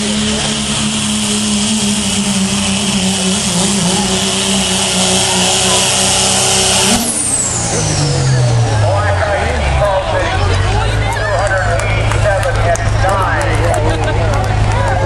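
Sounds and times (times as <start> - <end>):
diesel pickup engine at full throttle: 0.0 - 15.0.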